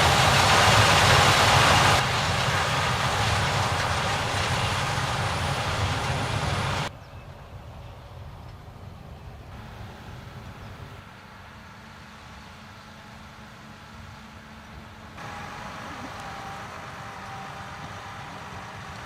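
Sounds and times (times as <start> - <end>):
combine harvester and tractors rumbling: 0.0 - 19.0.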